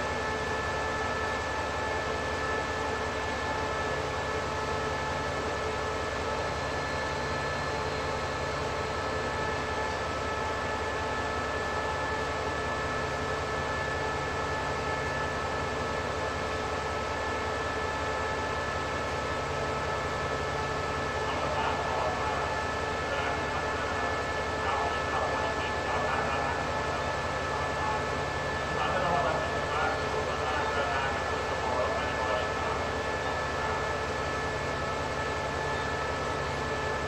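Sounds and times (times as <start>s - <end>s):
diesel locomotive idling: 0.0s - 37.0s.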